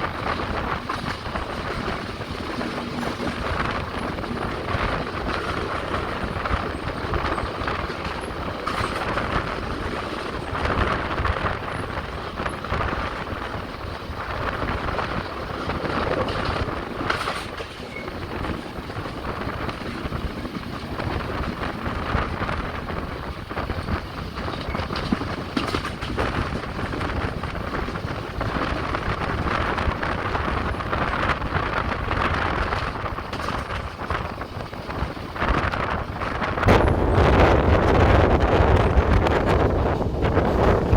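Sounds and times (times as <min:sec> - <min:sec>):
train wheel knock: 0:00.0 - 0:40.9
train wheels rumbling on rails: 0:00.0 - 0:40.9.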